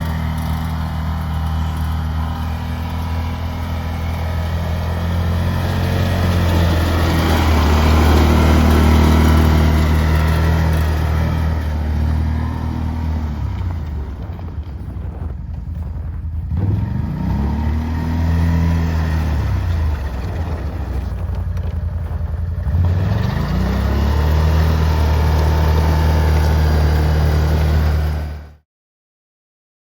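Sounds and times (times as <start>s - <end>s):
atv engine revving: 0.0s - 28.6s.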